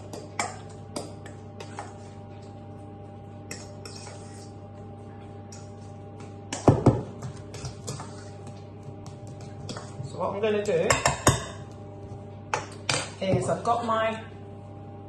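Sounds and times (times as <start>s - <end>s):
spoon stirring soft mixture: 0.0s - 12.9s
steady low hum: 0.0s - 15.0s.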